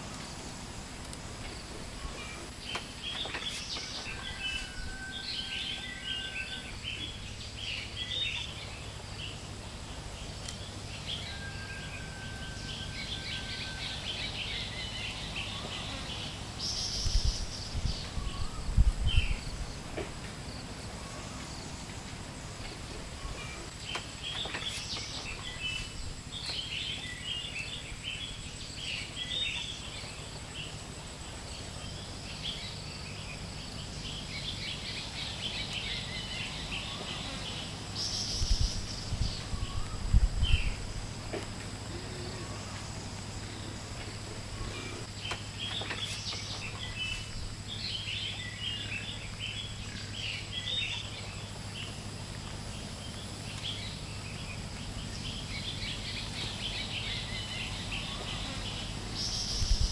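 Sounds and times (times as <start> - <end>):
birds chirping: 0.0 - 59.9
high insect buzz: 11.2 - 59.9.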